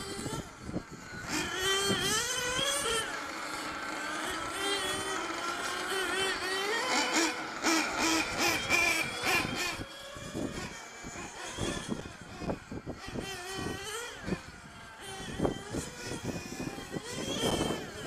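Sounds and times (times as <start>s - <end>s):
small engines whining: 0.0s - 18.0s.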